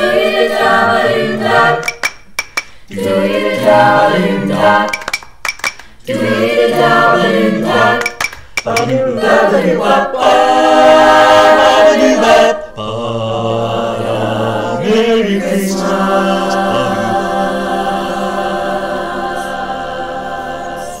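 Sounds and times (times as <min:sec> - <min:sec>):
vocal group singing a cappella: 0:00.0 - 0:21.0.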